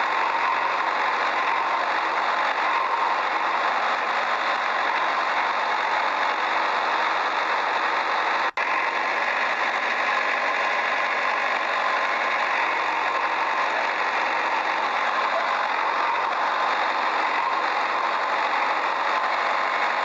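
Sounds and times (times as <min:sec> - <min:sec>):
motor running: 0:00.0 - 0:20.0.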